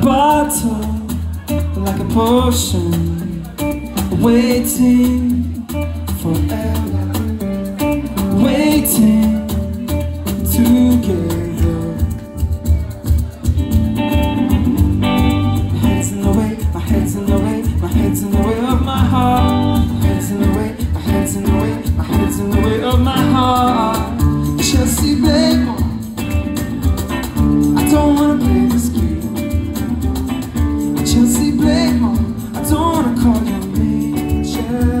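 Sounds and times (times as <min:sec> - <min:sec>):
person singing: 0:00.0 - 0:13.3, 0:14.4 - 0:27.0, 0:27.6 - 0:35.0
bass guitar: 0:00.0 - 0:35.0
drums: 0:00.0 - 0:35.0
electric guitars: 0:00.0 - 0:35.0.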